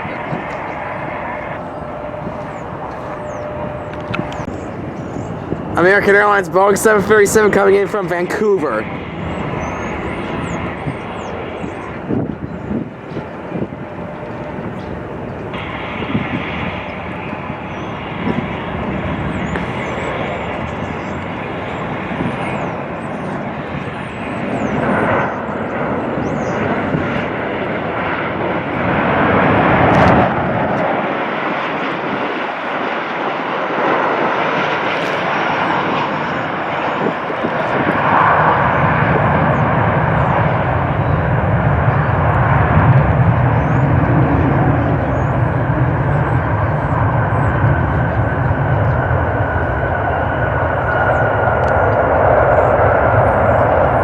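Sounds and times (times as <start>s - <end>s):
high engine whine: 0.0s - 54.0s
jet engines roaring: 0.0s - 54.0s.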